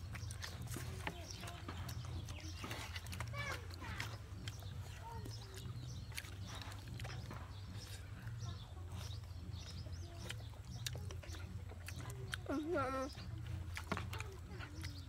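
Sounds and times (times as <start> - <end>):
bird calls: 0.0 - 15.0
clicks and rustles handling food: 0.0 - 15.0.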